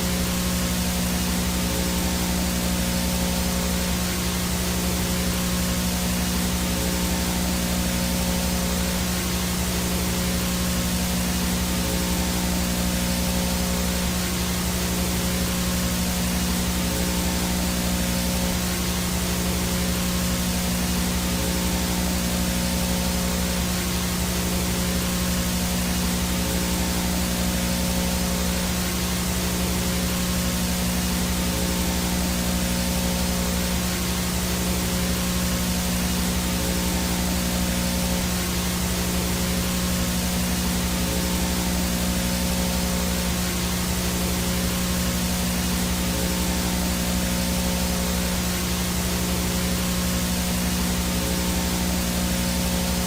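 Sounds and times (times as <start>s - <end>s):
faint high whine: 0.0s - 53.0s
low buzzing hum: 0.0s - 53.0s
static hiss: 0.0s - 53.0s.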